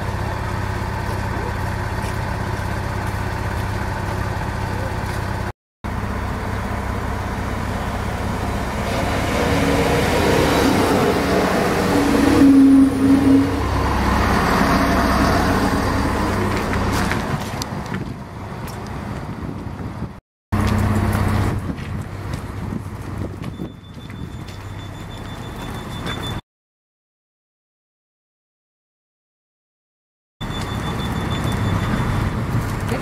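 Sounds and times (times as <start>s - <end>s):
diesel train engine rumble: 0.0s - 26.4s, 30.4s - 33.0s.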